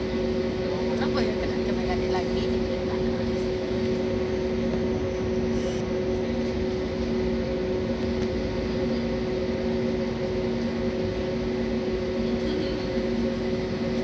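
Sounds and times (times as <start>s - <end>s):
airplane cabin hum: 0.0s - 14.0s.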